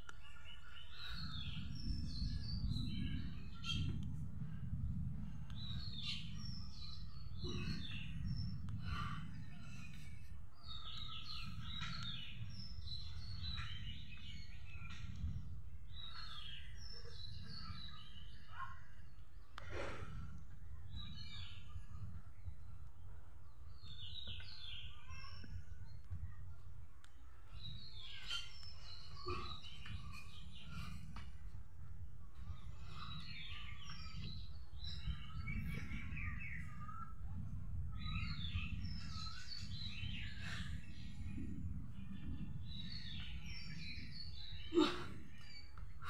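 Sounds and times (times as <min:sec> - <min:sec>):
small birds chirping: 0:00.0 - 0:46.0
steady low rumble: 0:00.0 - 0:46.0.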